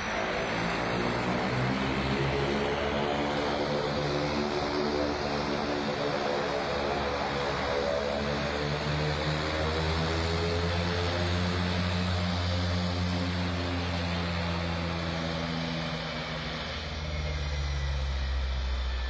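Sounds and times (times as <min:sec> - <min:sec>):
propeller plane drone: 0:00.0 - 0:19.0.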